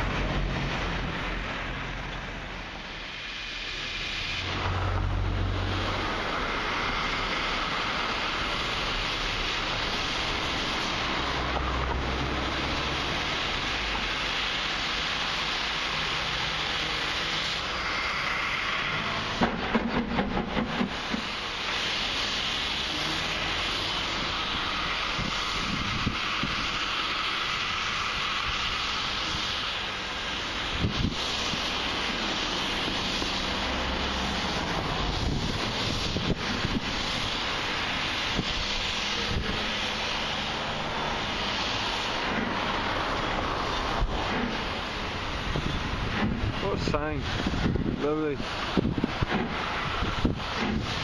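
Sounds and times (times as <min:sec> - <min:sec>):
steam locomotive hissing: 0:00.0 - 0:51.0.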